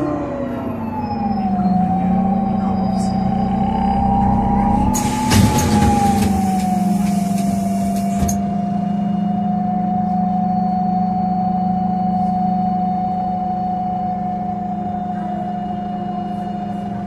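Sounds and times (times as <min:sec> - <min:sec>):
bus engine drone: 0:00.0 - 0:17.0
gearbox whine: 0:00.0 - 0:17.0.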